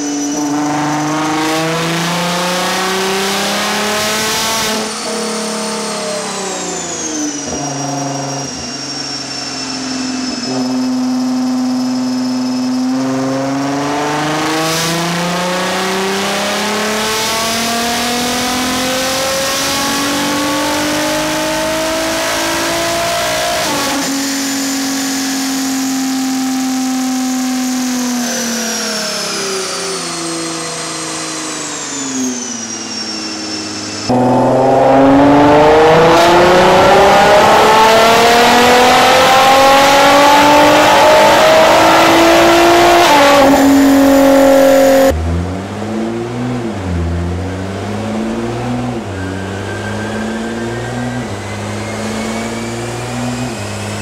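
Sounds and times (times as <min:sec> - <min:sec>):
car engine revving on dyno: 0:00.0 - 0:54.0
high whine winding down: 0:00.0 - 0:54.0.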